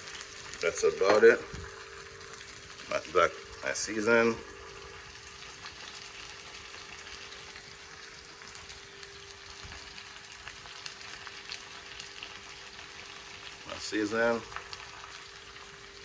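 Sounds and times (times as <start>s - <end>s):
faint steady hum: 0.0s - 16.0s
food sizzling in a pan: 0.0s - 16.0s.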